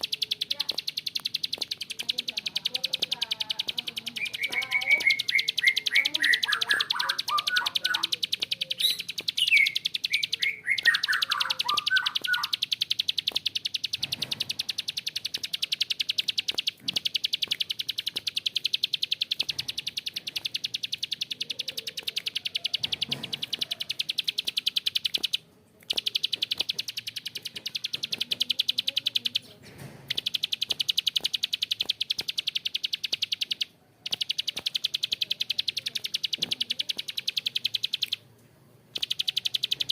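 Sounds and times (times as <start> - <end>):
bird clicking trill: 0.0 - 38.3, 38.9 - 39.9
falling chirped bird phrases: 0.0 - 38.3.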